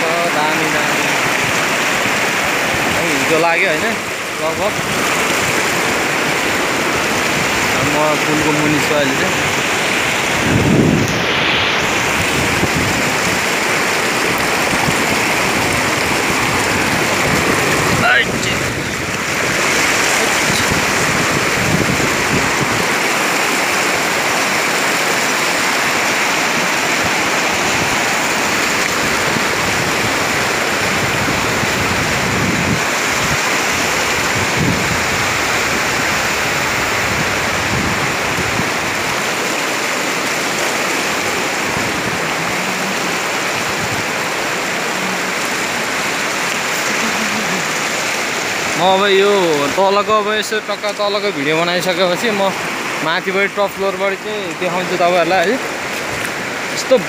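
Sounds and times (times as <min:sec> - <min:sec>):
river water rushing over boulders: 0:00.0 - 0:57.0.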